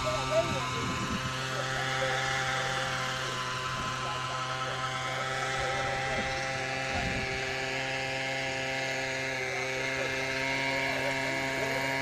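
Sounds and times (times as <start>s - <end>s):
small gasoline engine droning: 0.0s - 12.0s.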